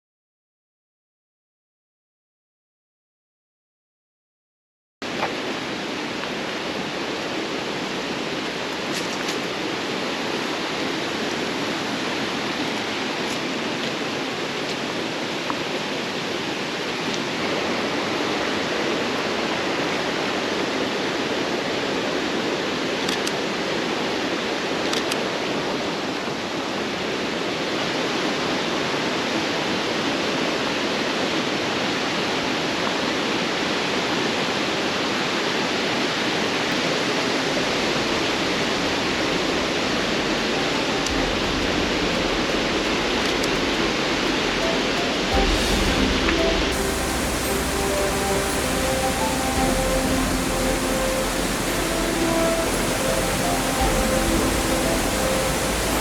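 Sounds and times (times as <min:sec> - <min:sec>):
waterfall roaring: 0:05.1 - 0:56.0.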